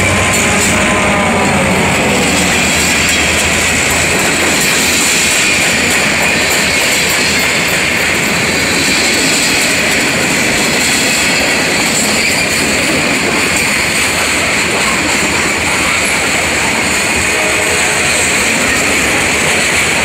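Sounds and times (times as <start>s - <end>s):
steel wheels on rail: 0.0s - 20.0s.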